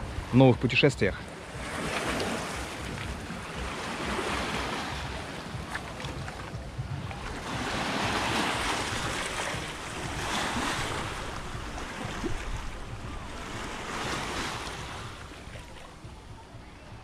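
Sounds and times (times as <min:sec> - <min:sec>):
sea surf washing against shore: 0:00.0 - 0:17.0
wind buffeting microphone: 0:01.4 - 0:17.0.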